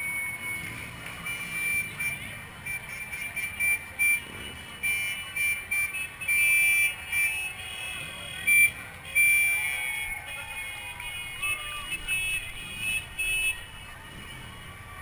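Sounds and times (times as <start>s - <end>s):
street and crowd hum: 0.0s - 15.0s.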